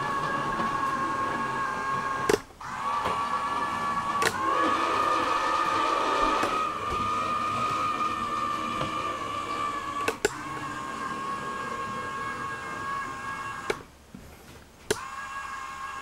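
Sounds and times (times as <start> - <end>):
small motor gear whine: 0.0 - 13.9, 14.9 - 16.0.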